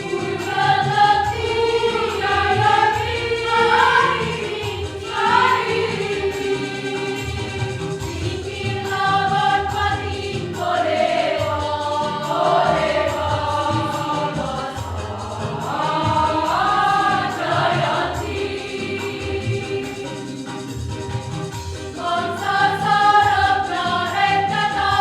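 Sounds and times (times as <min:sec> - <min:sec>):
choir singing in parts: 0:00.0 - 0:25.0.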